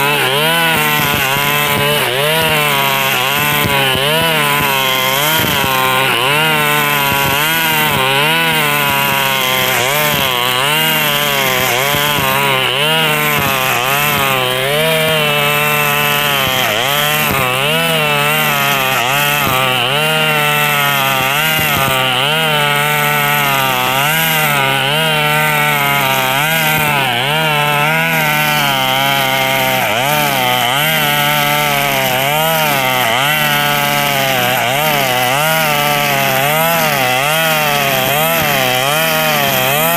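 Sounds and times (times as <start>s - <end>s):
brush cutter engine running: 0.0s - 39.9s
nylon line cutting grass: 0.0s - 39.9s.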